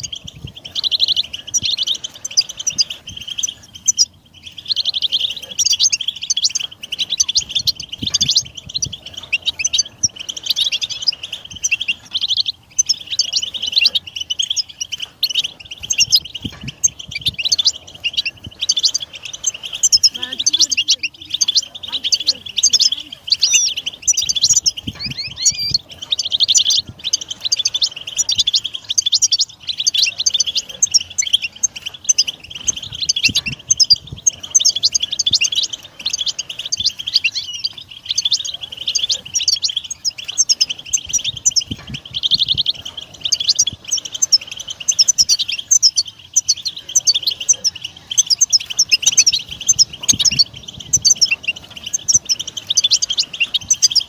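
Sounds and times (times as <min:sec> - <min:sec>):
goldfinch twittering song: 0:00.0 - 0:54.0.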